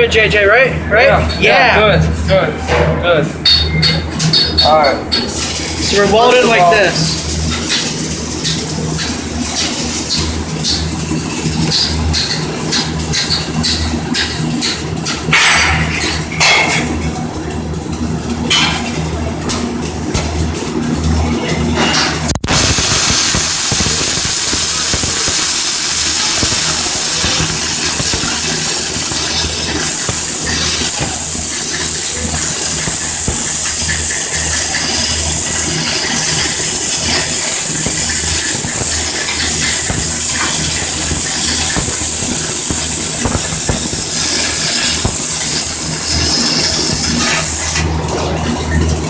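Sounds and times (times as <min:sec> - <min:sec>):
welding arc crackling: 0:03.5 - 0:49.0.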